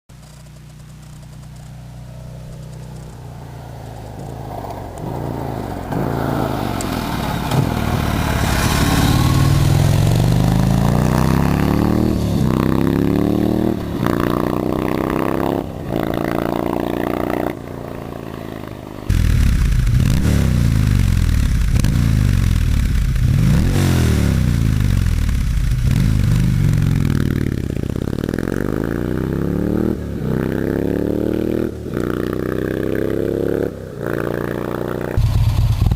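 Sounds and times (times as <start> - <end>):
motorcycle engine running hard: 0.2 - 35.9.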